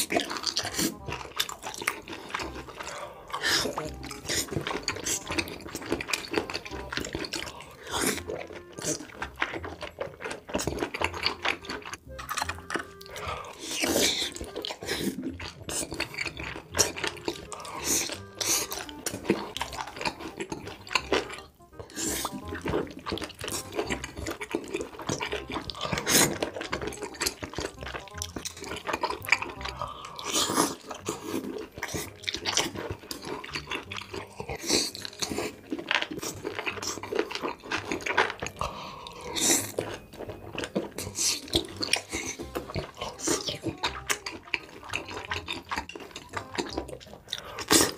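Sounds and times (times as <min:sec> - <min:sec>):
background music: 0:00.0 - 0:47.9
mouth smacks and clicks: 0:00.0 - 0:47.9
wet chewing and biting: 0:00.0 - 0:47.9.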